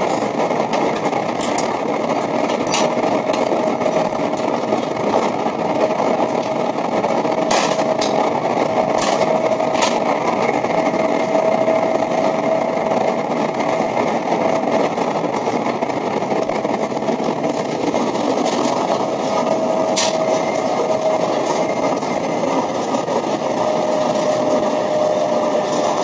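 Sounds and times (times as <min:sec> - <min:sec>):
train rumble and rushing air: 0:00.0 - 0:26.0.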